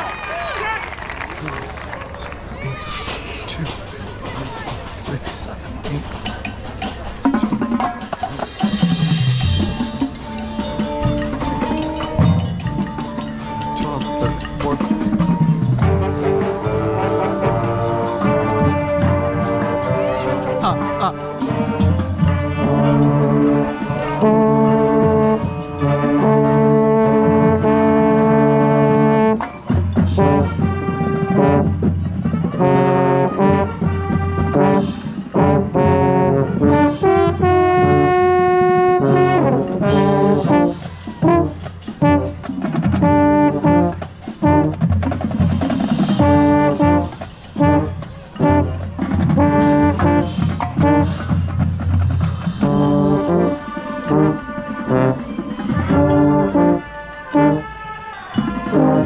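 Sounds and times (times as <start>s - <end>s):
brass section playing: 3.6s - 59.0s.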